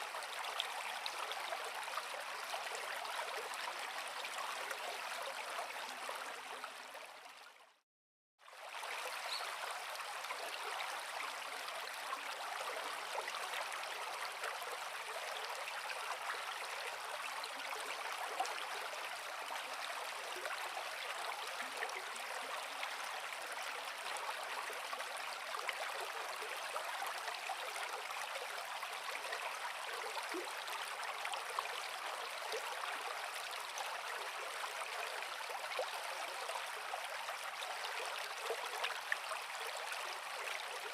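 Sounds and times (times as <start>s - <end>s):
creek water burbling over rocks: 0.0s - 7.4s, 8.4s - 40.9s.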